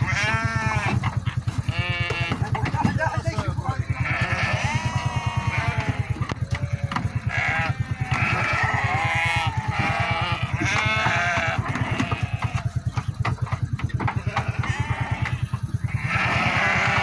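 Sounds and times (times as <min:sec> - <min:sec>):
fast steady low throb: 0:00.0 - 0:17.0
sheep bleating: 0:00.0 - 0:17.0.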